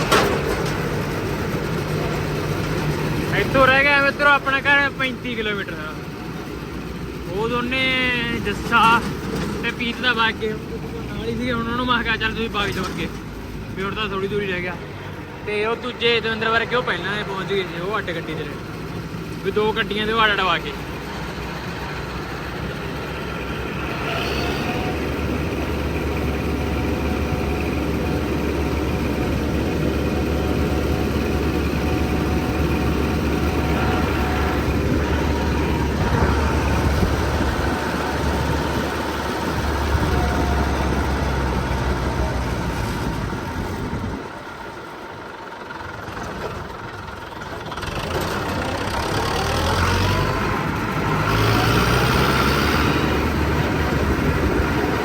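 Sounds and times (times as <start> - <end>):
tractor engine driving: 0.0 - 55.0.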